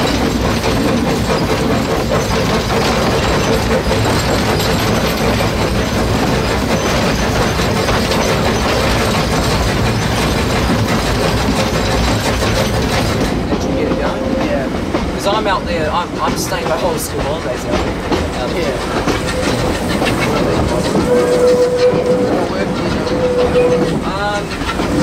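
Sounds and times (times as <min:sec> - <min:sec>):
steam locomotive rumble and clatter: 0:00.0 - 0:25.0.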